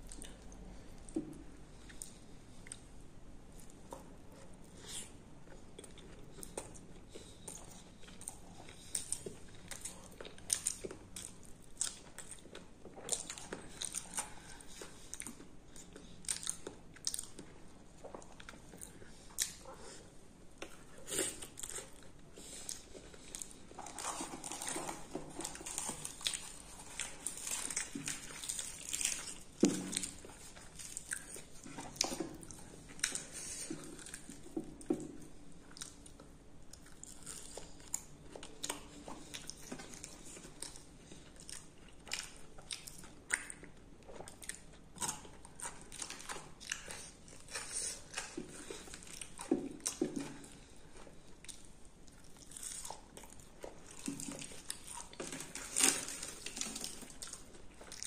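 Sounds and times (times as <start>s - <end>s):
person chewing crunchy food: 3.6s - 58.0s.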